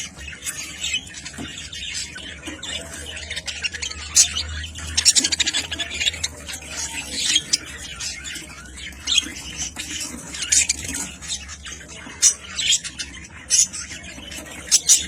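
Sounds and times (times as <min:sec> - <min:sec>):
pet birds squawking and chirping: 0:00.0 - 0:15.0.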